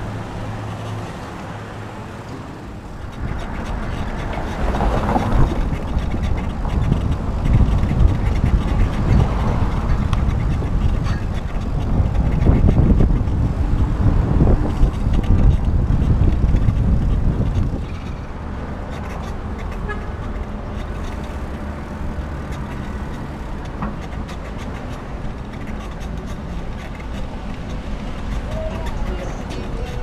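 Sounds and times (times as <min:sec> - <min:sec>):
bicycle riding noise: 0:00.0 - 0:30.0
wind buffeting microphone: 0:00.0 - 0:30.0.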